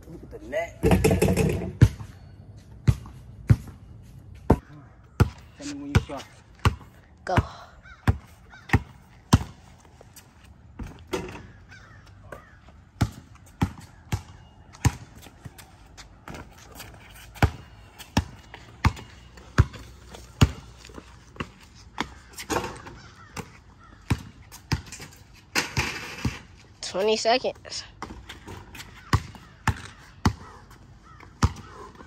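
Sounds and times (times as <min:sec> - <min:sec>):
basketball bouncing on concrete: 0:00.8 - 0:02.2, 0:02.8 - 0:03.8, 0:04.4 - 0:09.7, 0:10.8 - 0:26.5, 0:28.0 - 0:32.0.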